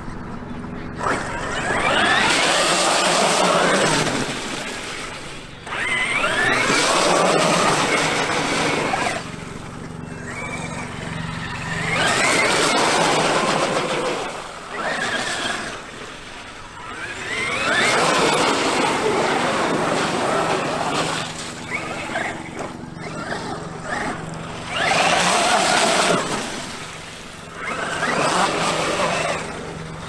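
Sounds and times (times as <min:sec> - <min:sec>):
rc truck electric motor whine: 0:00.2 - 0:30.0.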